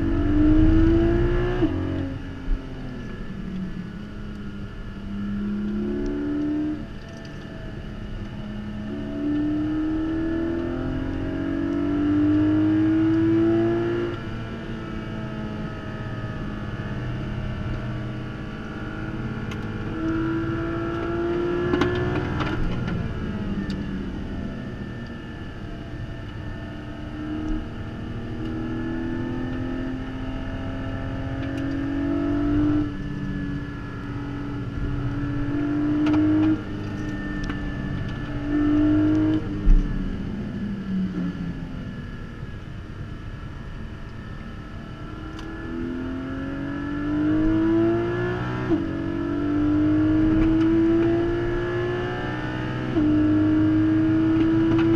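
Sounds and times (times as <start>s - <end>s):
car engine at speed from inside: 0.0s - 54.9s.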